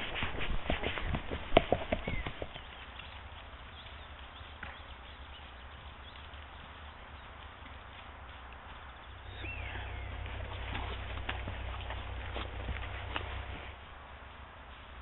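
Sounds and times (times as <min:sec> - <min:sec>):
faint low hum: 0:00.0 - 0:15.0
horse hooves on dirt: 0:00.0 - 0:15.0.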